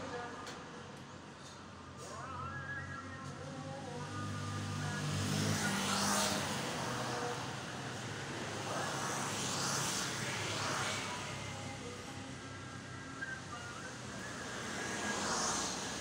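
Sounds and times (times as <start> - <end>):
vehicles passing by: 0.0 - 16.0.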